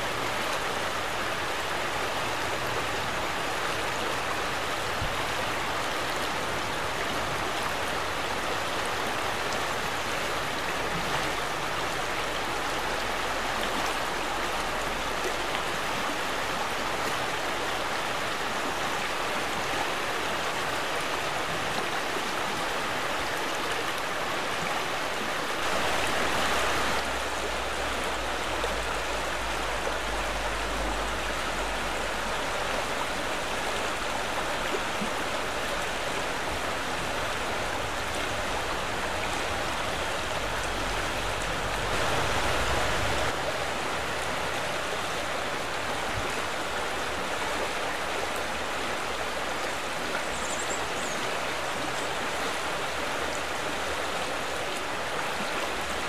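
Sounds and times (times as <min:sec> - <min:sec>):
river water rushing over stones: 0:00.0 - 0:56.0.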